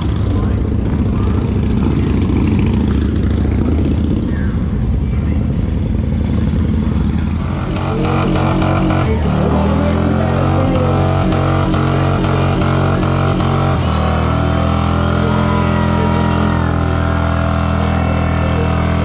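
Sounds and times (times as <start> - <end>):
motorcycle engine high revs drone: 0.0 - 19.0
motorcycle engines rumbling: 0.0 - 19.0.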